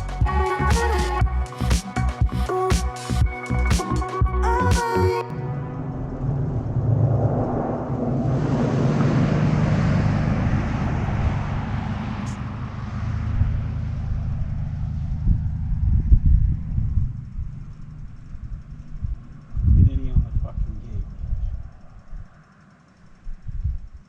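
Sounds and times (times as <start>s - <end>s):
uneven low rumbling: 0.0s - 22.4s
engine humming: 0.0s - 23.1s.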